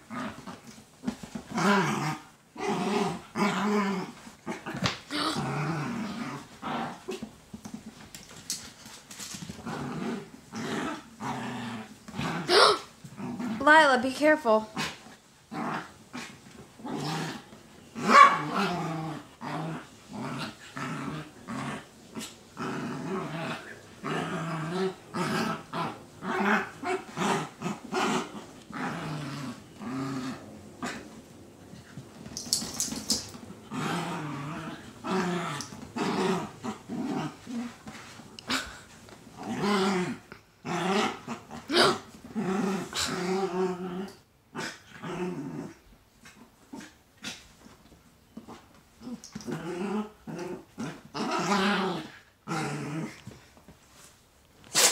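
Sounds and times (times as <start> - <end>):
small dogs growling: 0.0 - 7.8, 9.4 - 13.6, 14.7 - 53.4.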